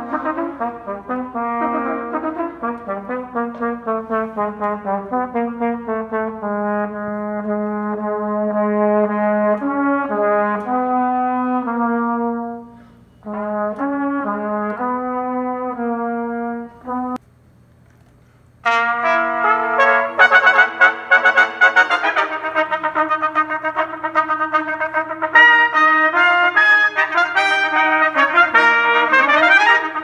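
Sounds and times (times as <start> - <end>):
trumpet ensemble playing: 0.0 - 17.2, 18.6 - 30.0.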